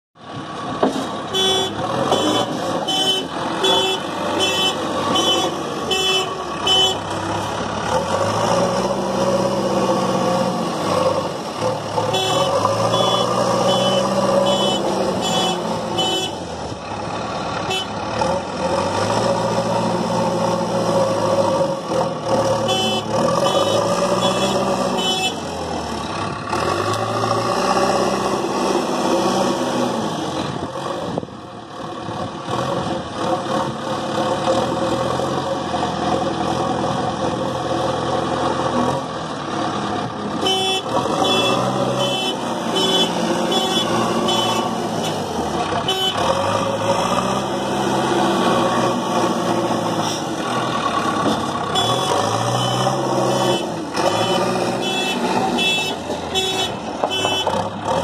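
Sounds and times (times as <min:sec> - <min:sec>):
diesel engine revving: 0:00.2 - 0:58.0.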